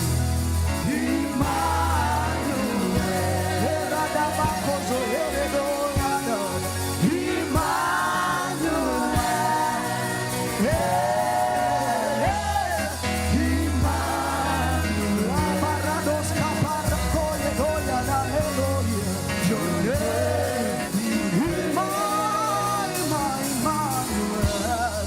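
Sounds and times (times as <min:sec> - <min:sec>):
gospel band with bass line: 0:00.0 - 0:25.0
person singing long sliding notes: 0:00.0 - 0:25.0.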